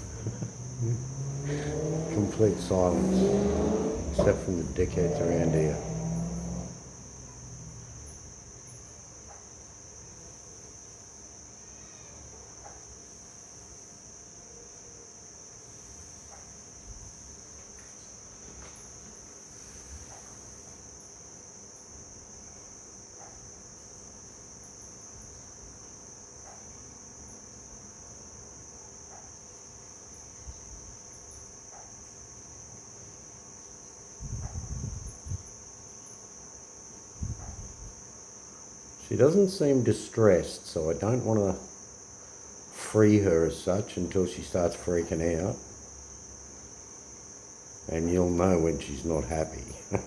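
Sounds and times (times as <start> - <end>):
insect chorus trilling: 0.0 - 50.0.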